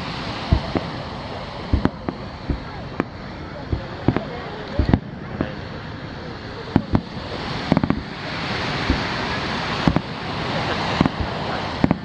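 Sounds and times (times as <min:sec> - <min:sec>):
fireworks bursting: 0:00.0 - 0:12.0
surf noise: 0:00.0 - 0:12.0.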